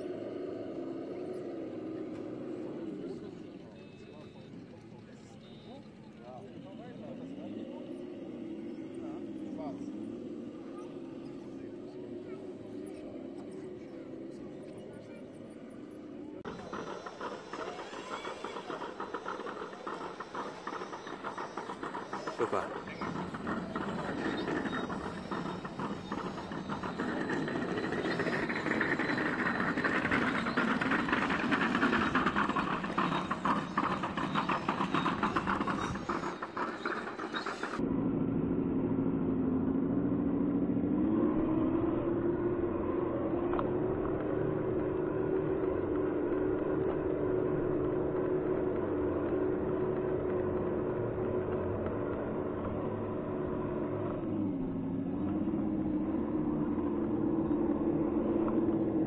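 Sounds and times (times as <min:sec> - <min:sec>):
motor drone: 0:00.0 - 0:59.0.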